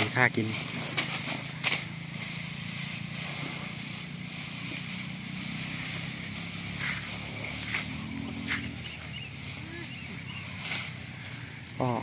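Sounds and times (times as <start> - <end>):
elephant chewing grass: 0.0 - 12.0
high hiss: 0.0 - 12.0
low engine-like drone: 0.0 - 12.0.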